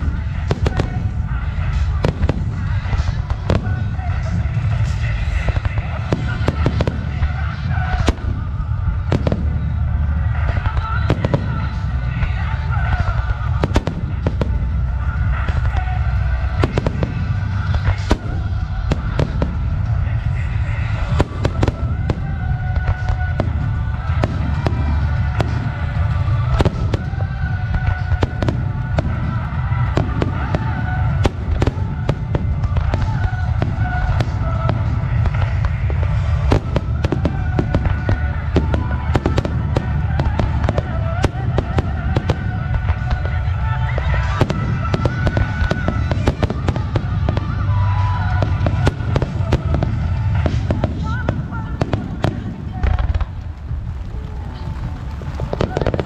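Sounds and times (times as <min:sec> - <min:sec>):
firework bangs: 0:00.0 - 0:56.0
low rumble: 0:00.0 - 0:56.0.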